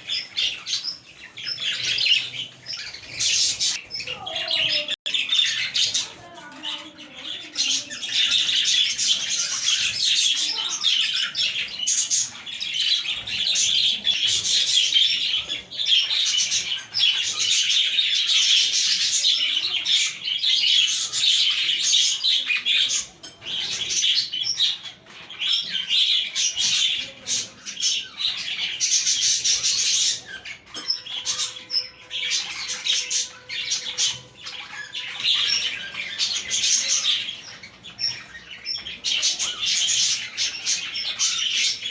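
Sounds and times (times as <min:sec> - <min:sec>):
budgerigars chattering and warbling: 0:00.0 - 0:41.9.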